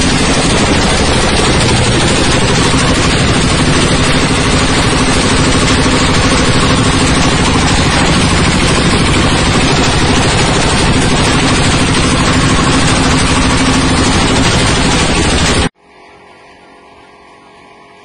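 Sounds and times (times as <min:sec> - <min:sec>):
husk shredding machine running: 0:00.0 - 0:17.8.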